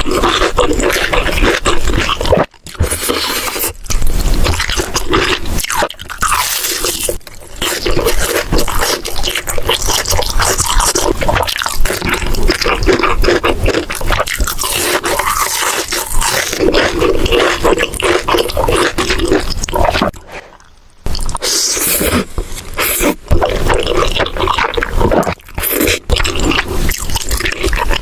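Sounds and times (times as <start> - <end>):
wet squishy chewing: 0.0 - 28.0.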